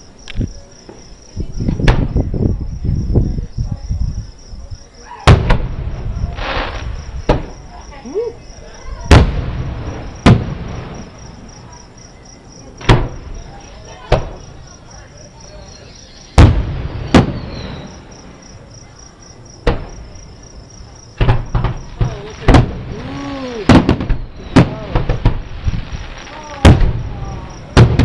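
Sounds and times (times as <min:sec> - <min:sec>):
crickets chirring: 0:00.0 - 0:28.0
distant fireworks booming: 0:00.4 - 0:04.1, 0:05.2 - 0:07.9, 0:08.6 - 0:14.9, 0:15.7 - 0:28.0.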